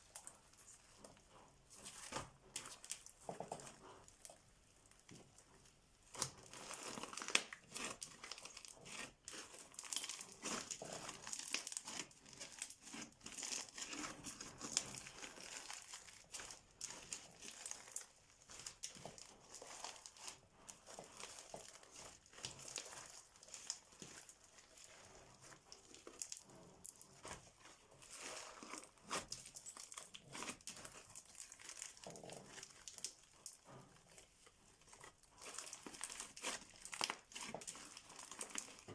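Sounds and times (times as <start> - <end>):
slime crackling and popping: 6.0 - 38.9.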